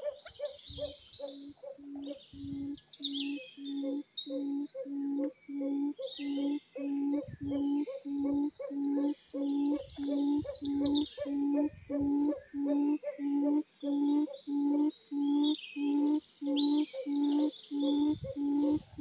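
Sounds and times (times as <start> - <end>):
quail hooting call: 0.0 - 19.0
small birds chirping: 0.0 - 19.0.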